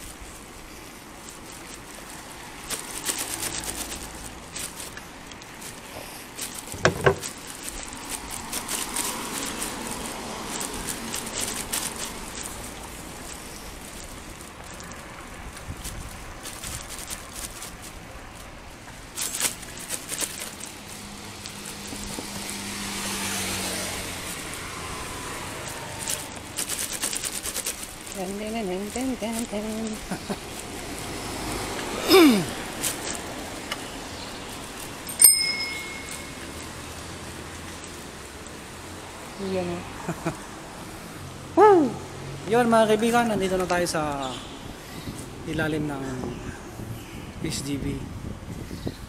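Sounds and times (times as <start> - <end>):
vehicle passing with hum: 0.0 - 45.5
road traffic rumble: 0.0 - 49.0.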